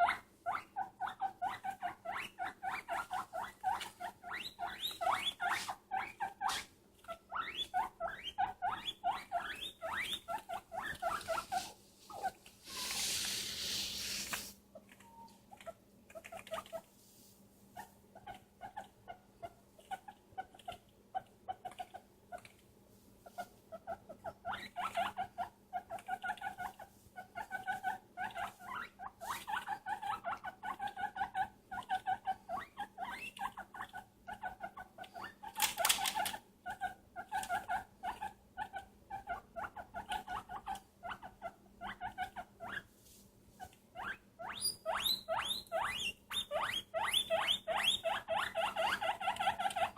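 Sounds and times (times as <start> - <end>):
pet animal squeaking: 0.0 - 14.2, 14.8 - 16.9, 17.8 - 22.6, 23.2 - 42.9, 43.6 - 49.9.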